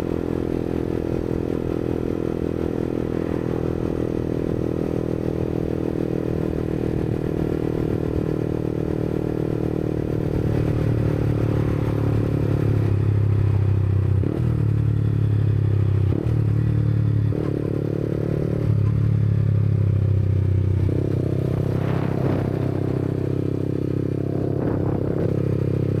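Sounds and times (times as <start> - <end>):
motorcycle engine while riding: 0.0 - 26.0.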